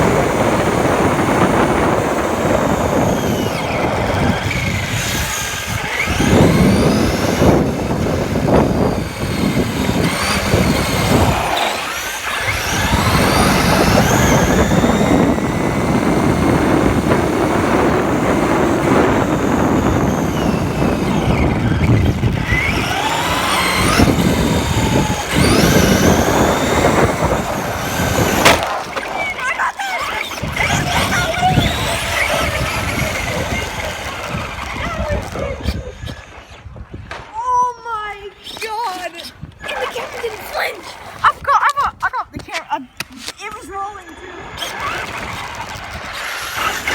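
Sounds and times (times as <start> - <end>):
electric motor whining: 0.0 - 37.3, 42.9 - 46.9
tyre and ground noise: 0.0 - 43.9.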